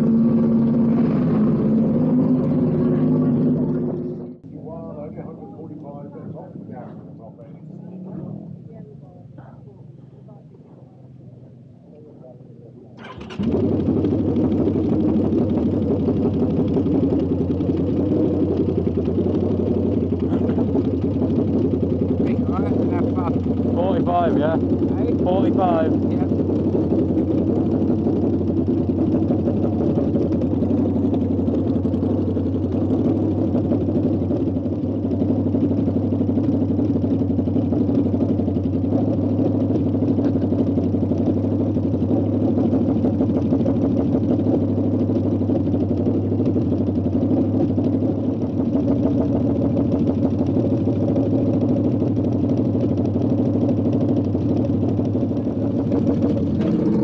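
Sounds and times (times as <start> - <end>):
engine droning steadily: 0.0 - 57.0.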